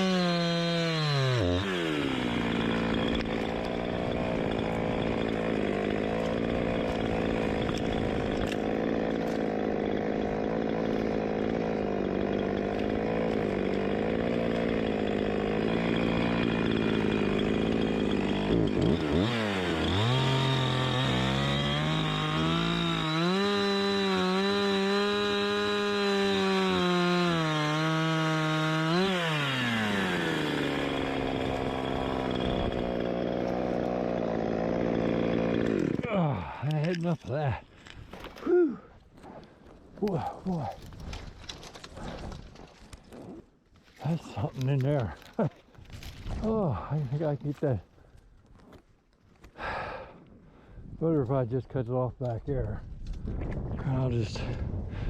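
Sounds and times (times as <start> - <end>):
chainsaw cutting wood: 0.0 - 38.5, 40.0 - 47.8.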